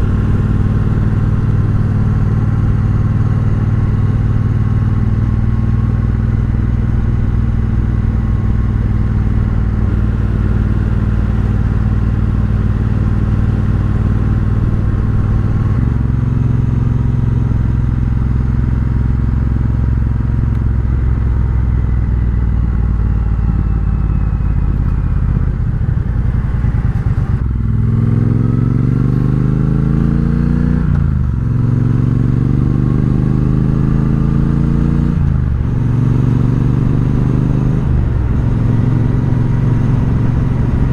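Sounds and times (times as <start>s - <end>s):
motorcycle engine revving: 0.0s - 20.5s, 22.7s - 40.9s.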